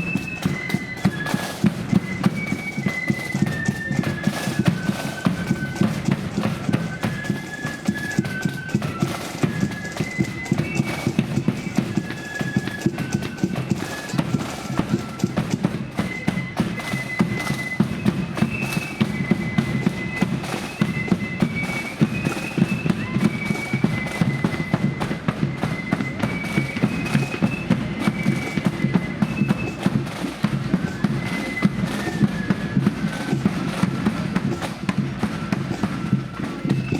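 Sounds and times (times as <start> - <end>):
flutes playing melody: 0.0 - 36.9
rapid snare drumming: 0.0 - 36.9.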